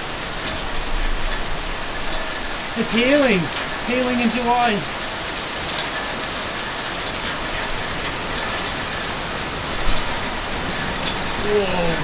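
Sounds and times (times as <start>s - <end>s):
hail pelting down: 0.0s - 12.0s
hailstones ticking: 0.0s - 12.0s.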